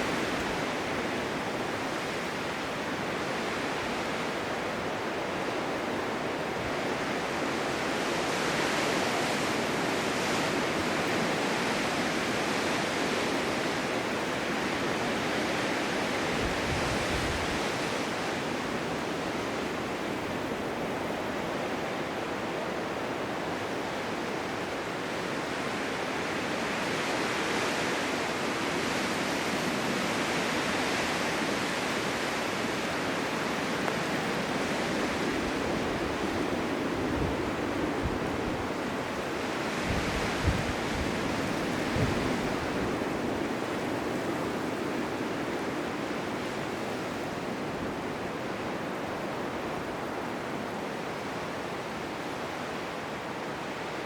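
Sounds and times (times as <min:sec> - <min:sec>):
blizzard wind rushing: 0:00.0 - 0:54.0.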